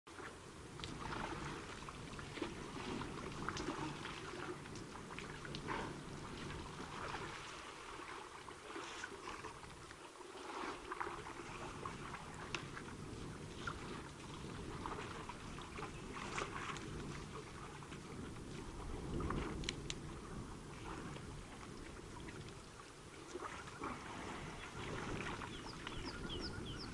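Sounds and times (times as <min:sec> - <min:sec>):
water splashing and trickling: 0:00.1 - 0:26.9.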